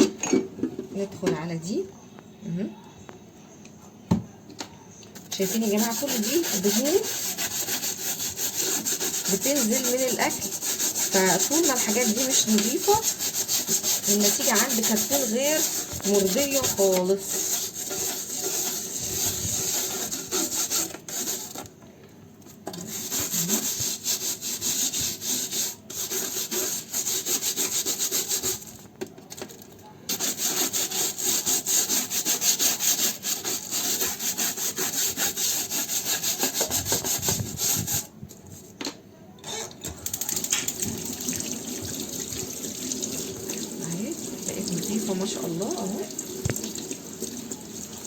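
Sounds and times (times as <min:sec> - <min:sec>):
scrubbing a filter: 0:05.2 - 0:21.7, 0:22.6 - 0:29.5, 0:30.1 - 0:38.1, 0:40.1 - 0:48.0.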